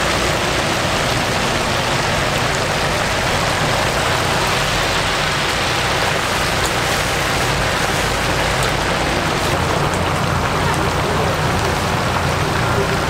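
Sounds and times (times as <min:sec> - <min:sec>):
hot oil sizzling and bubbling: 0:00.0 - 0:13.0.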